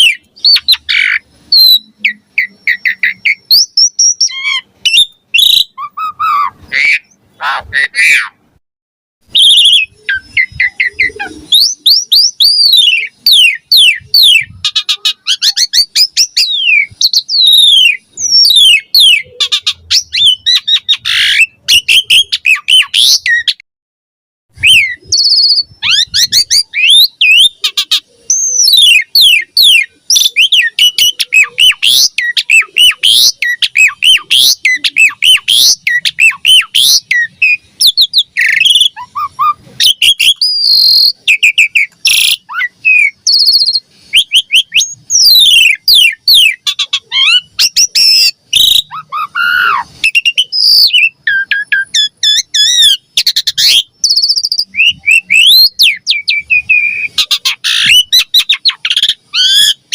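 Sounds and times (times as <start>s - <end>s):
starling singing: 0.0s - 8.5s, 9.2s - 23.6s, 24.6s - 59.9s.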